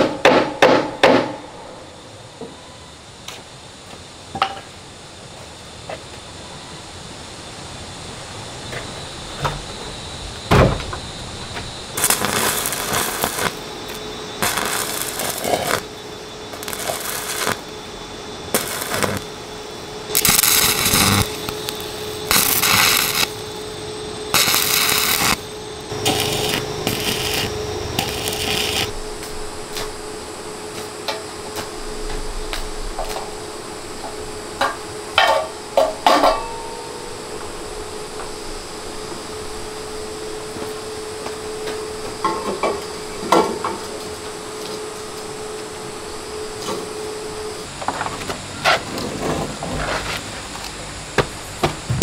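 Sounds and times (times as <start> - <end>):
steady hum: 0.0 - 52.0
arc welding crackle and hiss: 2.9 - 36.3, 36.9 - 52.0.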